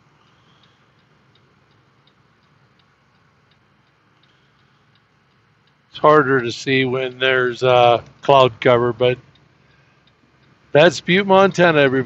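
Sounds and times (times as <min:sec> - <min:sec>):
quiet regular ticking: 0:00.0 - 0:12.0
truck cab hum: 0:00.0 - 0:12.0.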